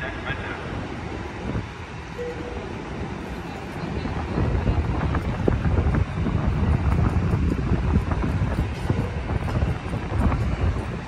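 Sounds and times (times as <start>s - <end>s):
diesel train idling: 0.0s - 11.0s
wind buffeting microphone: 0.0s - 11.0s.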